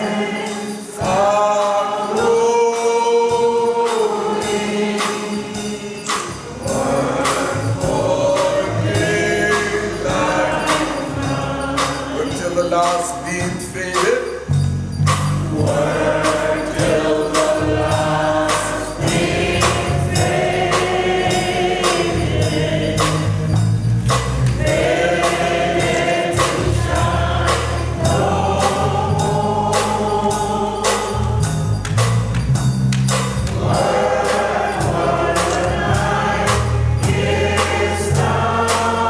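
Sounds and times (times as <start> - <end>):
choir singing a hymn: 0.0 - 13.5, 15.4 - 32.0, 33.4 - 39.0
steady percussion beat: 0.0 - 39.0
deep bass notes: 6.4 - 39.0.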